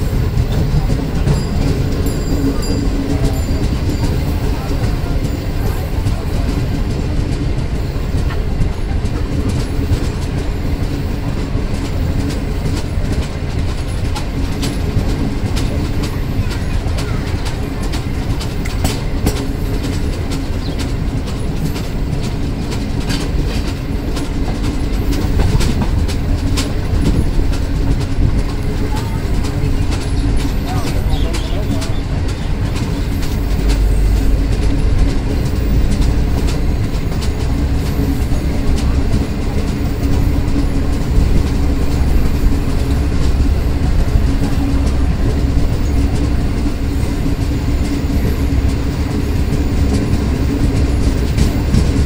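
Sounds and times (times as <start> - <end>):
train rumbling along rails: 0.0 - 52.0
wheels clicking over track: 0.0 - 52.0.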